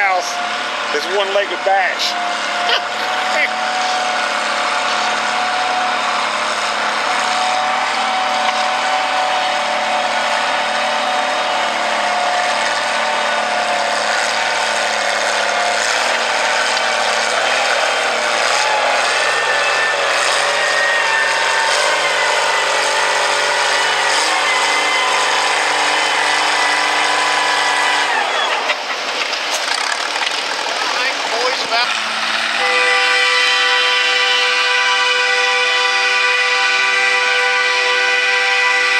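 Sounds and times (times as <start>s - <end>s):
tractor engine under load: 0.0s - 37.1s.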